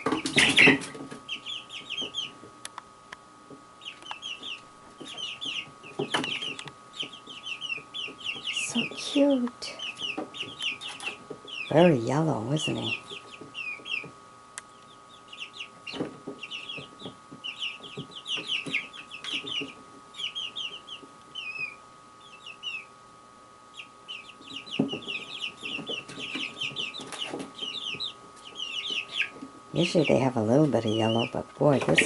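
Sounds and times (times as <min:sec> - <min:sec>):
faint high hum: 0:00.0 - 0:32.0
songbirds chirping: 0:00.0 - 0:32.0.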